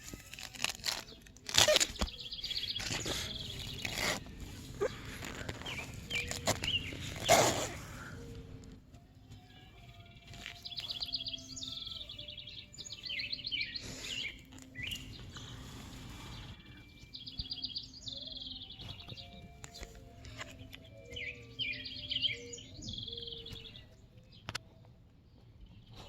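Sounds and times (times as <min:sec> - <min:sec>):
songbird singing trilled notes: 0:01.1 - 0:08.1, 0:09.3 - 0:24.6.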